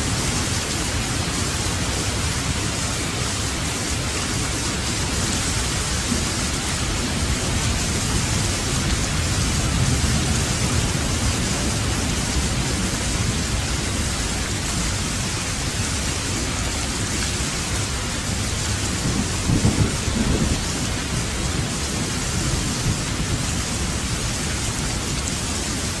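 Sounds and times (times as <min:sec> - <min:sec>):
heavy rain pouring: 0:00.0 - 0:26.0
low thunder rumbling: 0:00.1 - 0:25.8.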